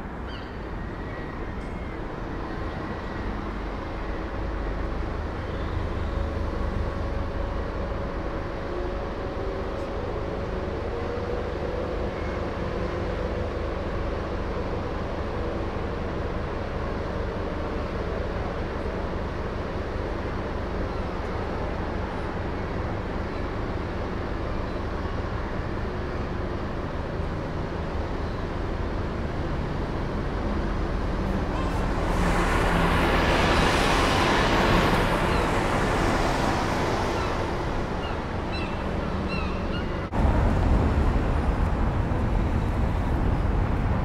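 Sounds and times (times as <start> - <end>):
distant traffic rumble: 1.5 - 44.0.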